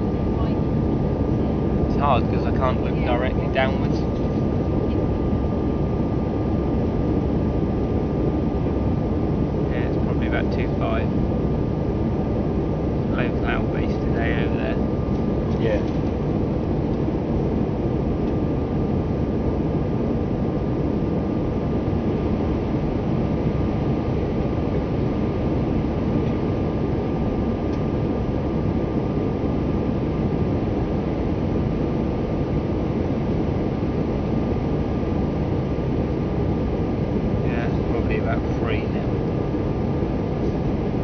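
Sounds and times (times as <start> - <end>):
aircraft cabin engine drone: 0.0 - 41.0
faint steady whine: 0.0 - 41.0.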